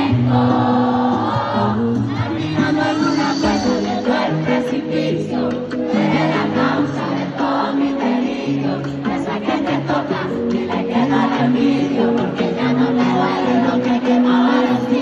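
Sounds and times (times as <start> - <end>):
crowd singing along: 0.0 - 15.0
live concert music: 0.0 - 15.0.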